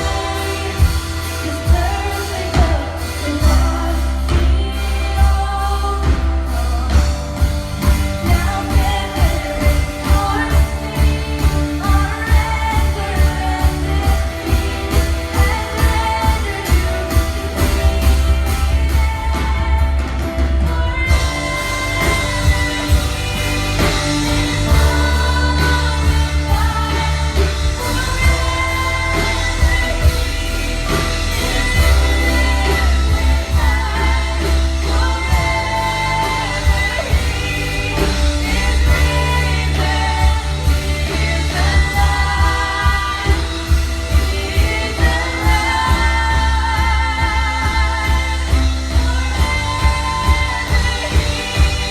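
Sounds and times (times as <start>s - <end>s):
heavy steady bass: 0.0s - 51.9s
person singing: 0.0s - 51.9s
worship song with band: 0.0s - 51.9s.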